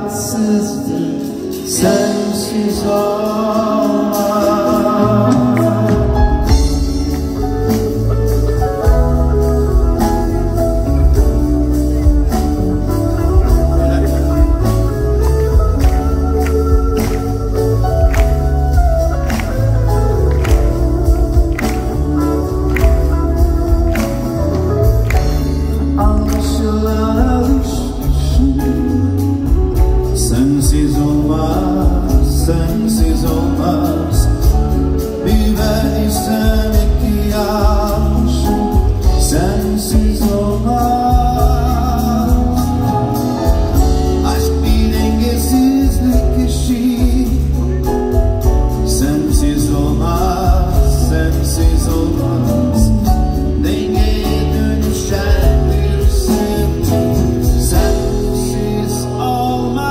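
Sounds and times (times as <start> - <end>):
live band playing: 0.0 - 59.9
man singing: 0.0 - 59.9.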